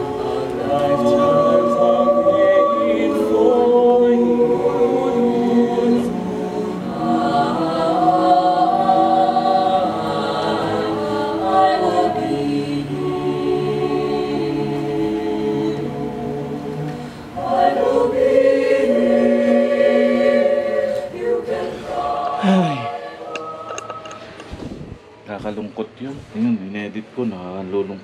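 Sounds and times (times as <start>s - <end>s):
choir singing held notes: 0.0s - 25.2s.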